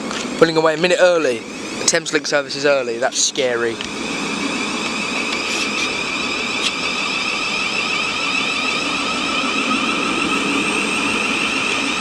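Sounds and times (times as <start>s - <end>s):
electric train motor whine: 0.0s - 12.0s.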